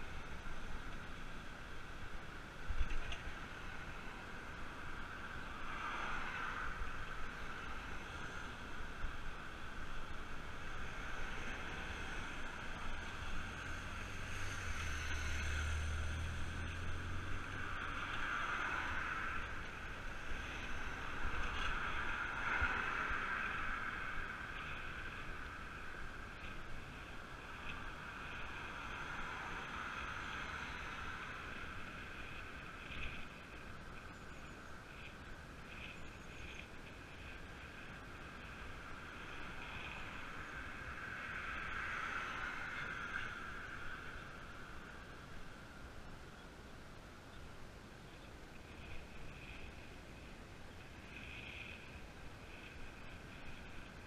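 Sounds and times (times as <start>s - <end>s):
bicycle tyre noise: 0.0s - 45.4s, 48.5s - 54.0s
passing traffic rumble: 0.0s - 54.0s.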